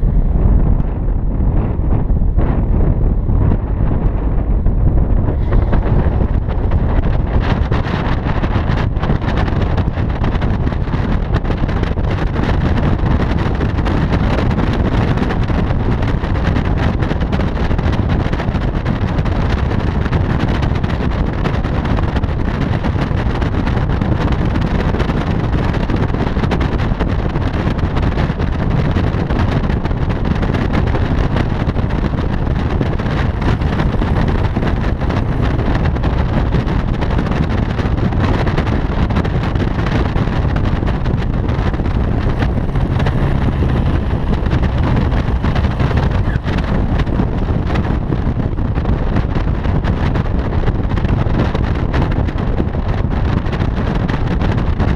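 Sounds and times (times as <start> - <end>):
road and engine rumble: 0.0 - 54.9
wind buffeting microphone: 0.0 - 54.9.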